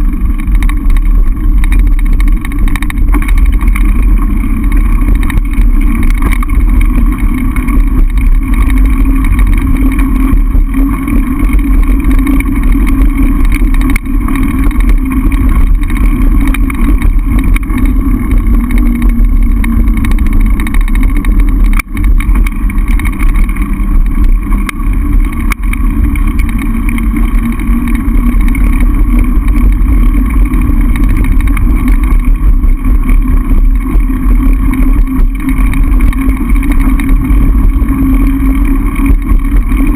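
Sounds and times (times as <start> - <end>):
bike frame rattling: 0.0 - 39.9
wind buffeting microphone: 0.0 - 39.9.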